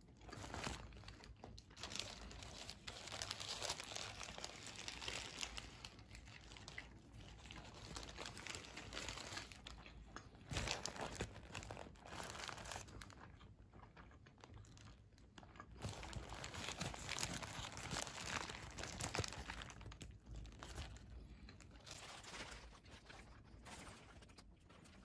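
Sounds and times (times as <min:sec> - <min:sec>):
paper wrapper crinkling: 0:00.0 - 0:13.2, 0:15.6 - 0:25.0.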